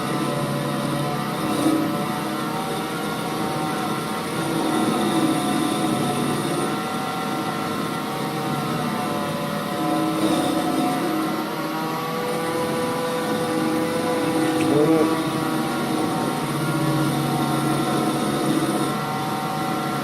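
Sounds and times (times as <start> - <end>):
lathe whining: 0.0 - 20.0.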